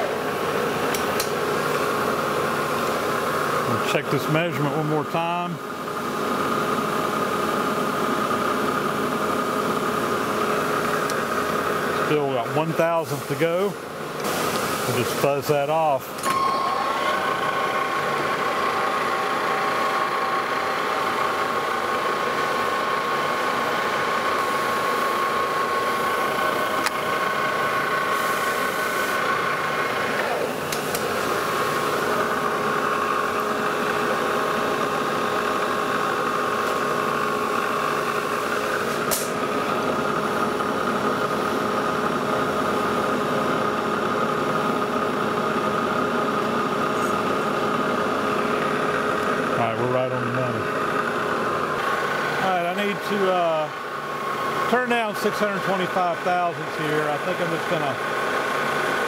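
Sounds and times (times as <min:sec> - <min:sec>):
metal lathe humming: 0:00.0 - 0:59.0.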